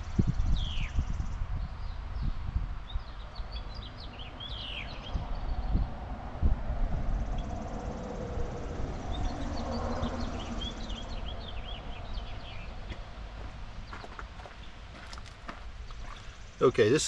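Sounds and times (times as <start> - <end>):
small birds chirping: 0.0 - 6.0, 7.2 - 17.0.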